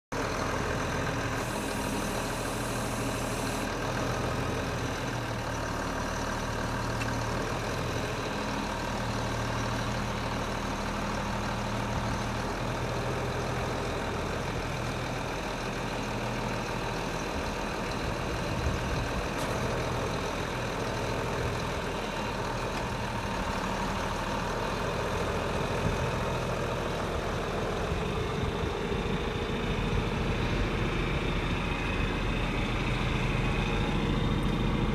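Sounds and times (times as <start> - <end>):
tractor engine idling: 0.1 - 34.9.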